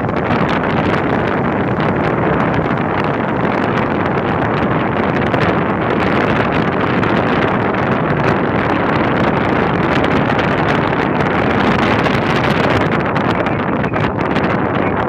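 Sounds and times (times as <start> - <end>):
car road and tyre noise: 0.0 - 15.0
wind rushing over microphone: 0.0 - 15.0.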